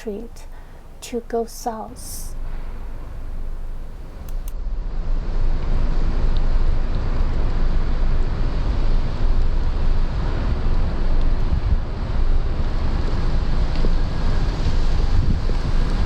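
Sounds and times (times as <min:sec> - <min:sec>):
wind buffeting microphone: 0:00.0 - 0:04.5, 0:06.7 - 0:16.0
street noise hiss: 0:00.0 - 0:16.0.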